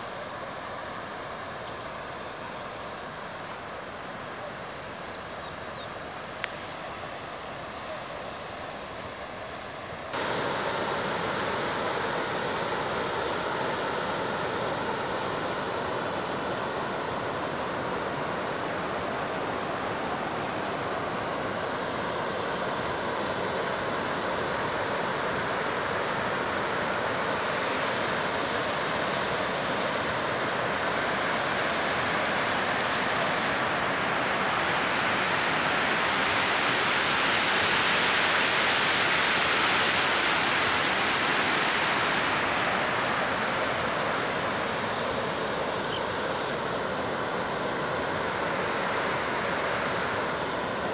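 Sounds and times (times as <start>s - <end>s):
floodwater rushing: 10.1s - 50.9s.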